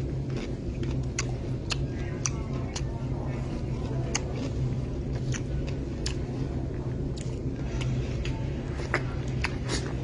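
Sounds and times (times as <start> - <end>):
person chewing and eating: 0.0 - 10.0
steady low hum: 0.0 - 10.0.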